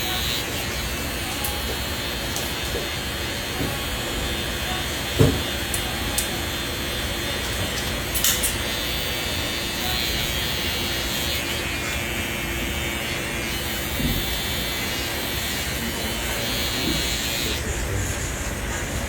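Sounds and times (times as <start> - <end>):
electric hair clippers buzzing: 0.0 - 17.7.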